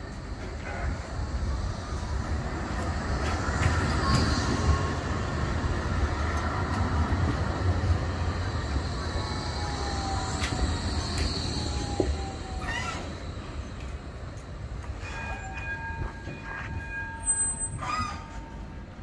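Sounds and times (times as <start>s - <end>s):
tram rumbling past: 0.0s - 19.0s.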